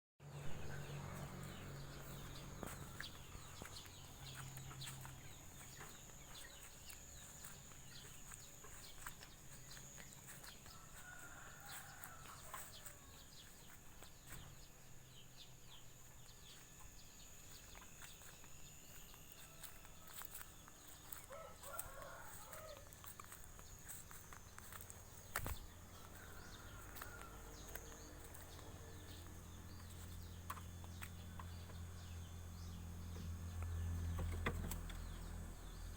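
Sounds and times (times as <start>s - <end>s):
wild birds chirping: 0.2s - 35.9s
high insect drone: 0.3s - 35.9s.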